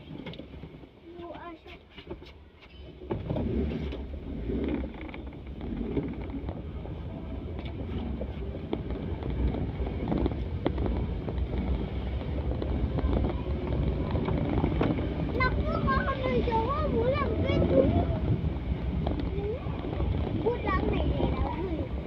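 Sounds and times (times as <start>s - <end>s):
wind buffeting microphone: 3.0s - 22.0s.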